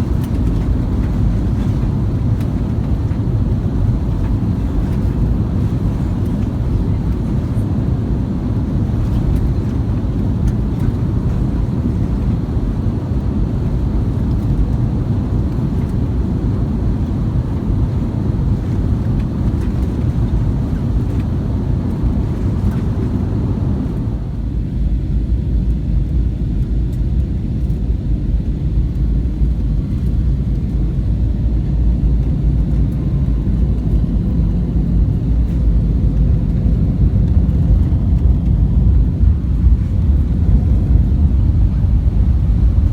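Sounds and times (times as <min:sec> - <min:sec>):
deep rumble of jet engines: 0:00.0 - 0:42.9.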